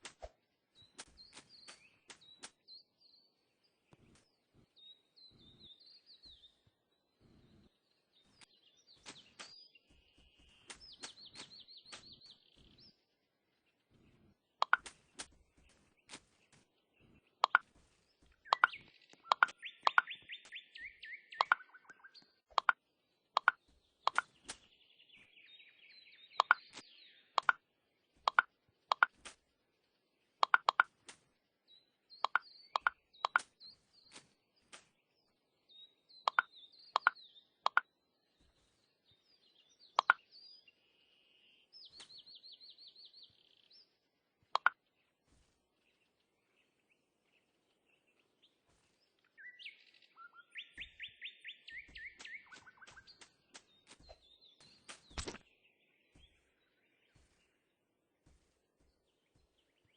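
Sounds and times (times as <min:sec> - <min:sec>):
birds chirping and trilling: 0:00.1 - 0:59.9.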